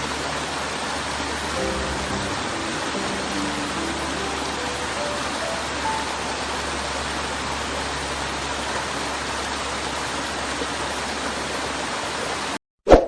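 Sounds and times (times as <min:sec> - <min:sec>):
rushing water: 0:00.0 - 0:12.6.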